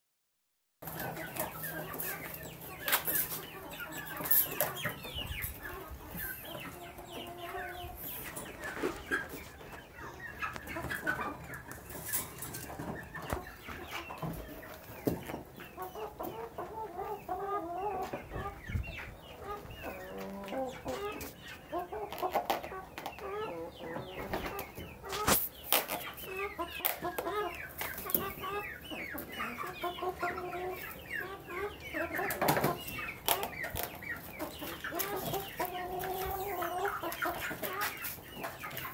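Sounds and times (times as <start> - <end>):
chickens clucking: 0.8 - 38.9.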